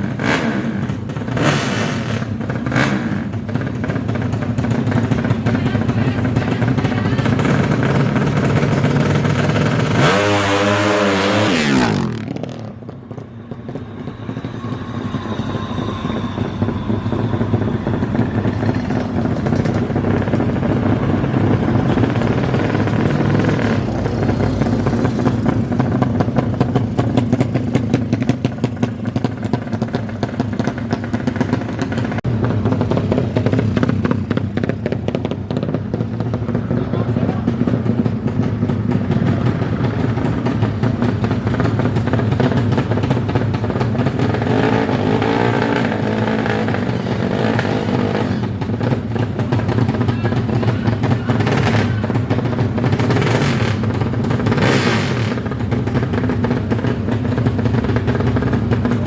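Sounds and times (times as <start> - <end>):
motorcycle engines revving hard: 0.0 - 13.2, 16.6 - 59.0
motorcycle passing by: 6.5 - 30.1, 31.1 - 59.0.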